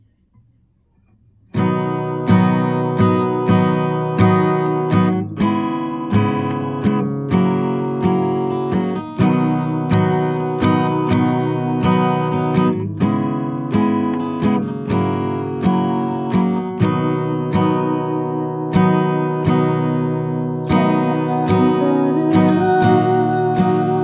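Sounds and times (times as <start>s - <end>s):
acoustic guitar strumming: 1.5s - 24.0s.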